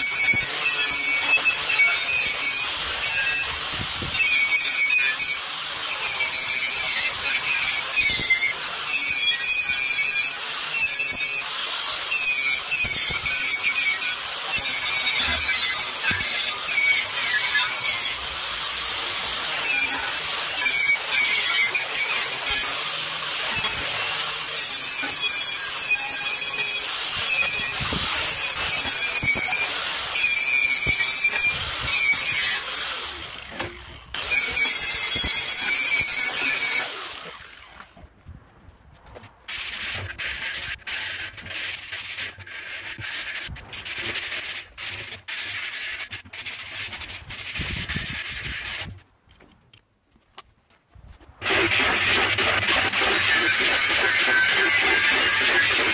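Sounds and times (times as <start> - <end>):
wire brush grinder on steel: 0.0 - 38.0, 39.5 - 49.0, 51.4 - 55.9.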